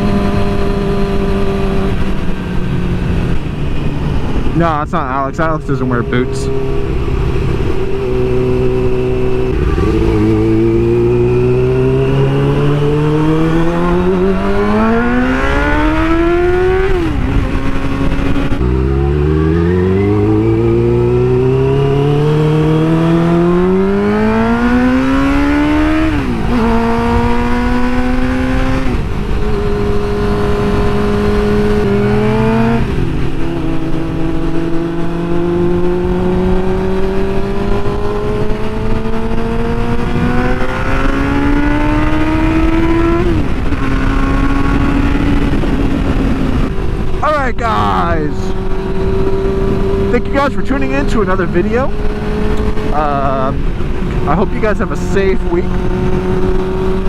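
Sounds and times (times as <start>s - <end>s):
motorcycle engine revving: 0.0s - 57.0s
wind noise on microphone: 6.5s - 54.7s, 55.4s - 57.0s.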